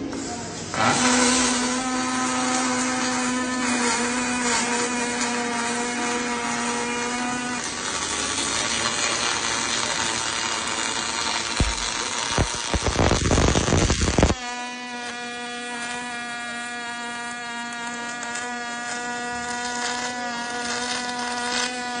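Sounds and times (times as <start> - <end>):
steady electric hum: 0.0 - 22.0
welding arc crackling: 0.0 - 22.0.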